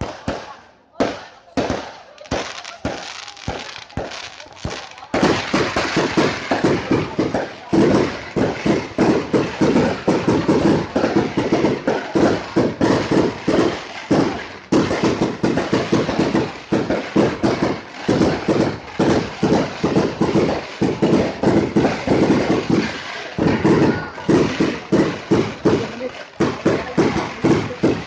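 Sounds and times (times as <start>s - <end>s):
fireworks firing rapid shots: 0.0s - 28.0s.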